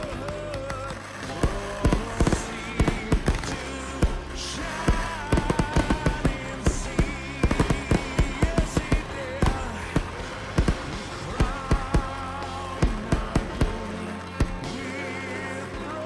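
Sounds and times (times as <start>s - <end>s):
sharp cracks and bangs: 0.0s - 15.8s.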